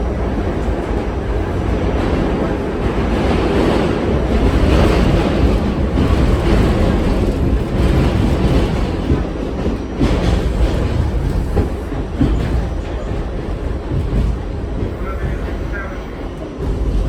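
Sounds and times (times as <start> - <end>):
subway wheels rumbling: 0.0 - 17.0
wheels clattering over rail joints: 1.5 - 15.7.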